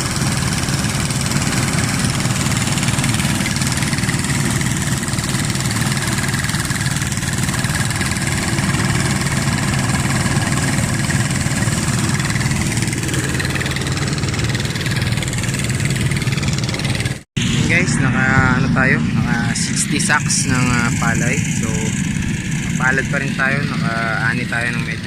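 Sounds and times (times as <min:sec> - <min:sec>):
engine droning steadily: 0:00.0 - 0:25.0.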